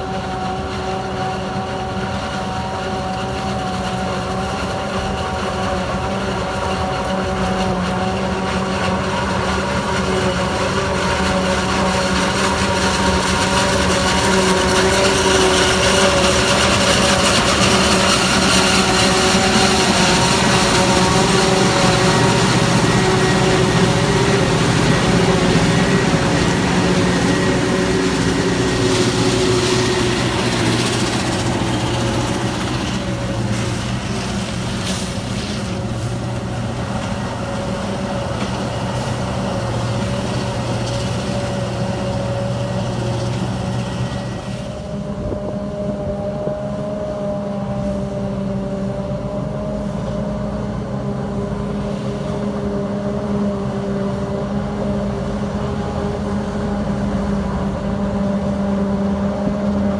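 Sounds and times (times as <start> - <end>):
heavy farm machinery engines: 0.0 - 59.9.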